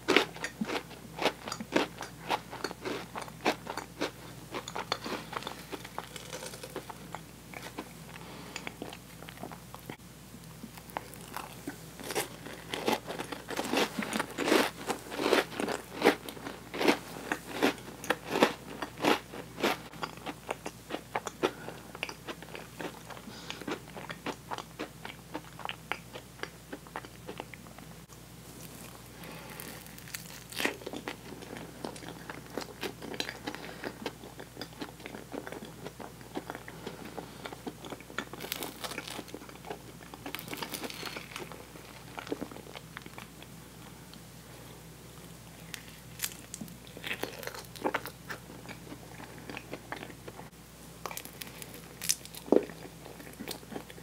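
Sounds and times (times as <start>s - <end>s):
cookie crunching and chewing: 0.0s - 44.0s, 45.1s - 50.4s, 51.0s - 54.0s.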